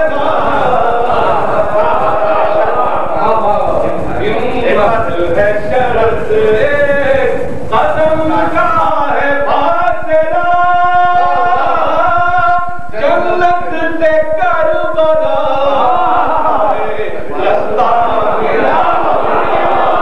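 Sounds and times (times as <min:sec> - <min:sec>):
unaccompanied voices singing: 0:00.0 - 0:20.0.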